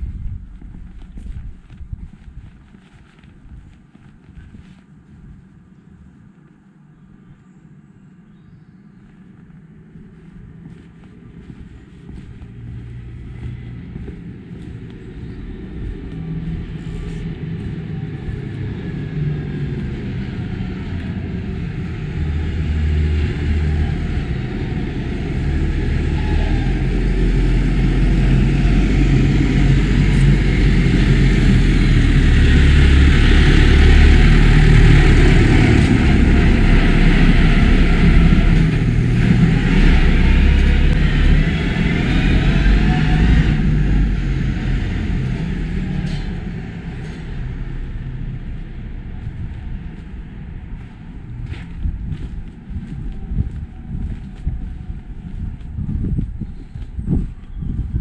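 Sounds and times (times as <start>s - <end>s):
engine passing by: 9.7s - 58.0s.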